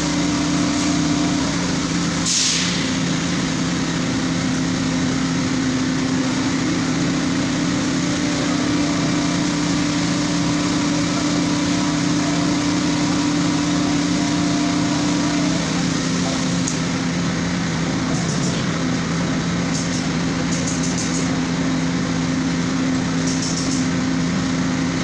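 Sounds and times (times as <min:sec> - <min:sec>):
small machinery engine running: 0:00.0 - 0:25.0.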